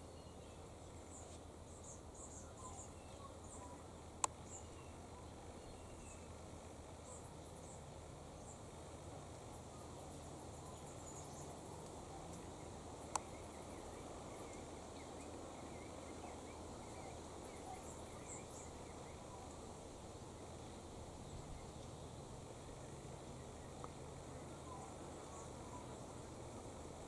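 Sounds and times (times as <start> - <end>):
low hum and hiss: 0.0 - 27.0.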